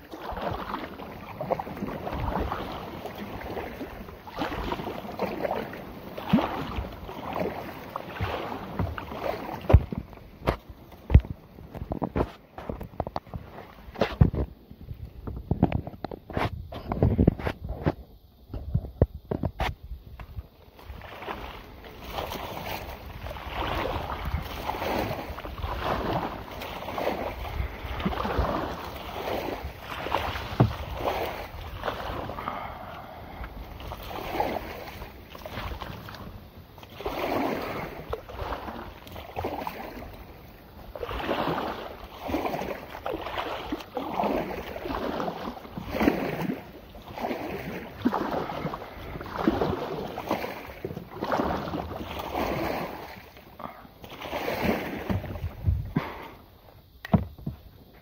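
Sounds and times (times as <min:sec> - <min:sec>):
kayak hull pushing through weeds: 0:00.0 - 0:58.0.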